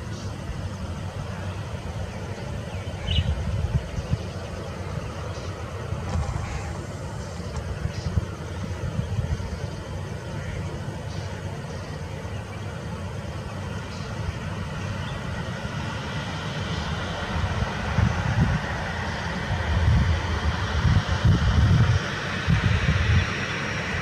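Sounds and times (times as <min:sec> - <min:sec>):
jet engines taxiing: 0:00.0 - 0:24.0.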